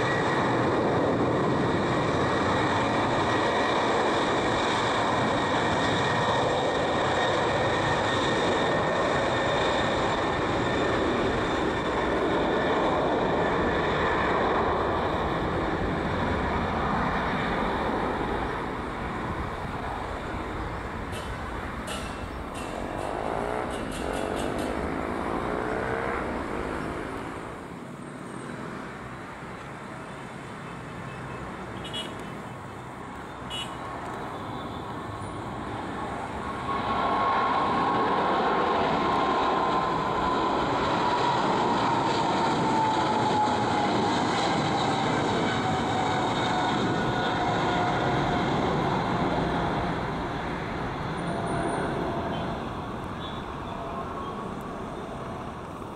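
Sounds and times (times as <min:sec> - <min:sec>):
jet engine whine: 0:00.0 - 0:55.9
jet engines at takeoff: 0:00.0 - 0:55.9.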